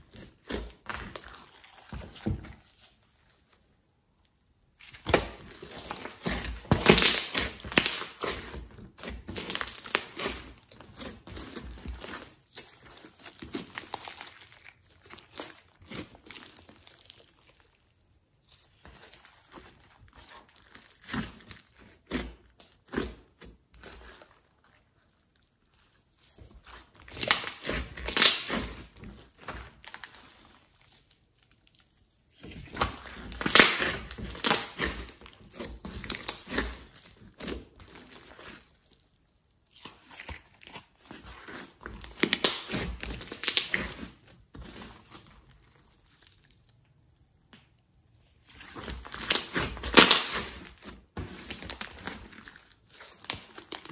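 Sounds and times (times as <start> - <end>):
slime squishing and crinkling: 0.0 - 53.9.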